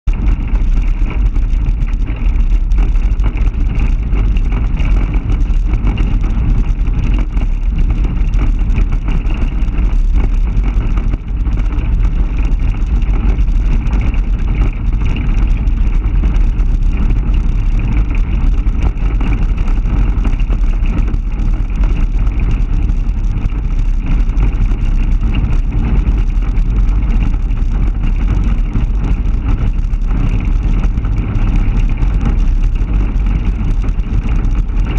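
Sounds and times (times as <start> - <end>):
pickup truck rumbling: 0.1 - 34.9
wind buffeting microphone: 0.1 - 34.9.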